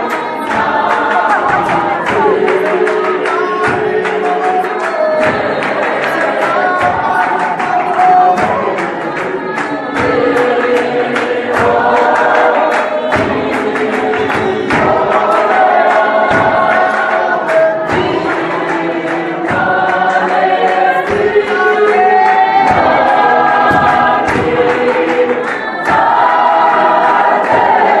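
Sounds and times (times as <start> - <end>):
choir singing a gospel hymn: 0.0 - 28.0
hand claps: 0.0 - 28.0.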